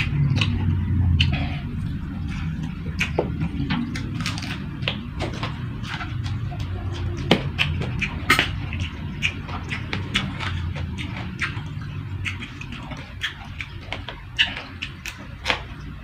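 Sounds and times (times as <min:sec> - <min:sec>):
chewing and crunching food: 0:00.0 - 0:16.0
steady low hum: 0:00.0 - 0:16.0.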